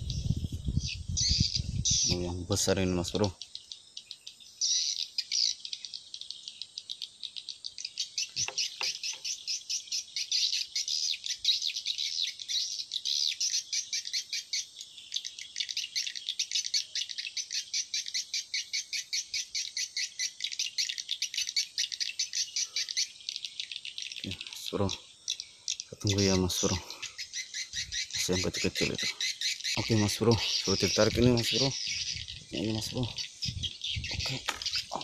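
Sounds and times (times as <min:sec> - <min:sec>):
small animal chirping: 0:03.2 - 0:35.0.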